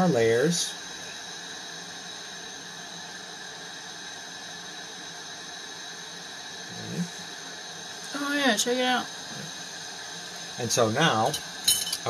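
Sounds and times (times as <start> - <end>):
glassworking torch hissing: 0.0 - 12.0.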